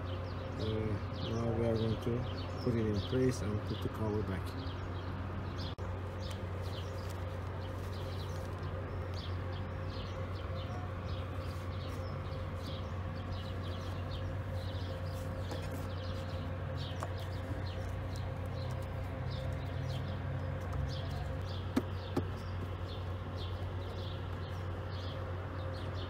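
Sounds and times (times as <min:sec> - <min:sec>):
small birds chirping: 0:00.0 - 0:26.0
steady low hum: 0:00.0 - 0:26.0.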